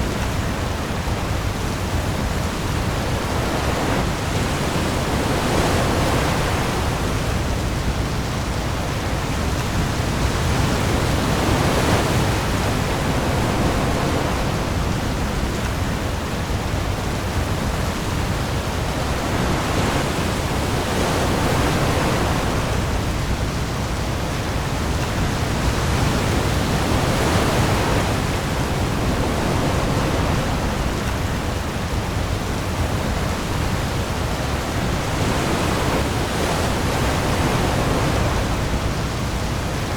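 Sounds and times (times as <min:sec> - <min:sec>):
heavy rain on the sea: 0:00.0 - 0:39.9
waves rolling: 0:00.0 - 0:39.9.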